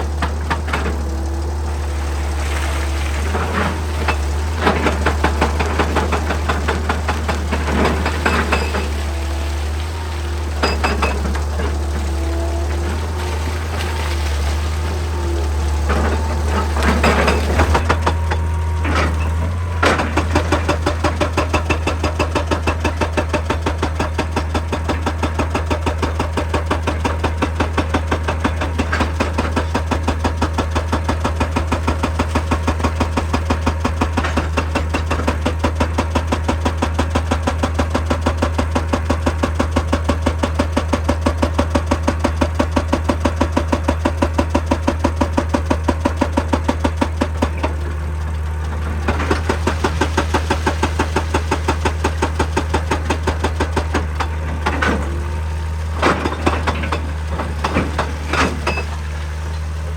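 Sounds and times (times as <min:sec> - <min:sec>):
diesel engine hum: 0:00.0 - 0:59.9
hydraulic breaker hammering rock: 0:00.0 - 0:59.9.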